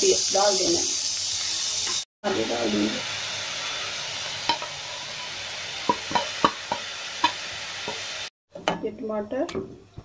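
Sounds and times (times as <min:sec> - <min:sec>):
onions sizzling in hot oil: 0:00.0 - 0:08.4.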